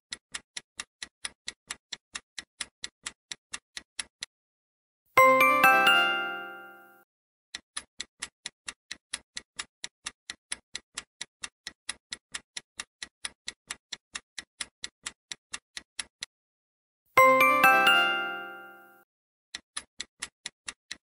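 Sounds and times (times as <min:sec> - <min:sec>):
clock-like timer ticks: 0:00.1 - 0:04.3, 0:07.5 - 0:16.3, 0:17.2 - 0:21.0.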